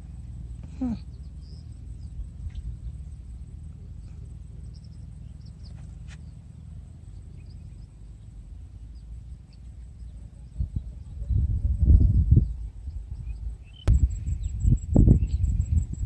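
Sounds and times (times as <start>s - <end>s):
low rumble: 0.0s - 16.0s
small birds chirping: 0.0s - 16.0s.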